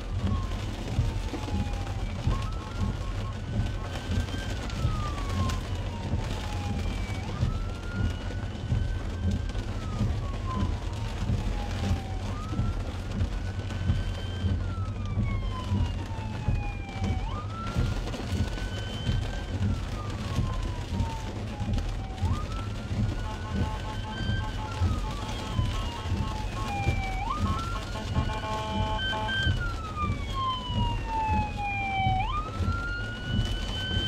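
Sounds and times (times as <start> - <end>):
emergency siren wailing: 0.0 - 34.0
engine and road rumble: 0.0 - 34.0.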